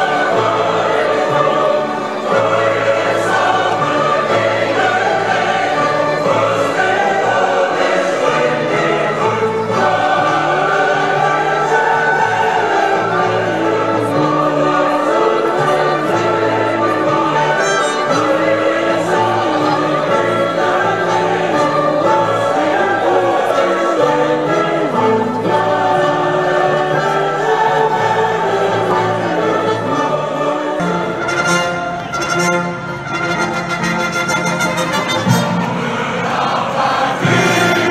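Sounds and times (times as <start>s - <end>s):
choir singing with orchestra: 0.0s - 37.9s.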